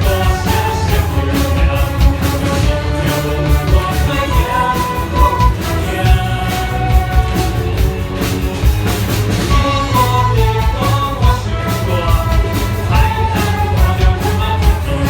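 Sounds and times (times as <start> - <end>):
orchestra playing pop arrangement: 0.0 - 15.0
steady drum beat: 0.0 - 15.0.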